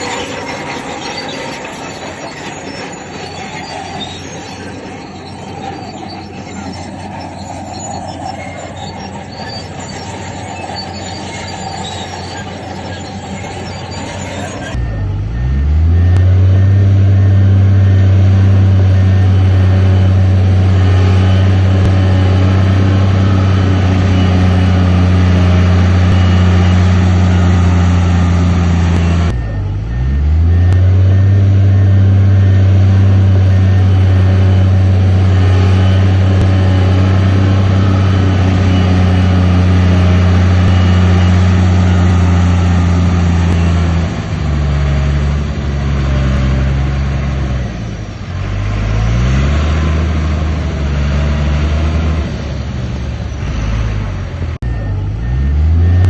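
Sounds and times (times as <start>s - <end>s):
diesel engine at high revs: 0.0s - 56.0s.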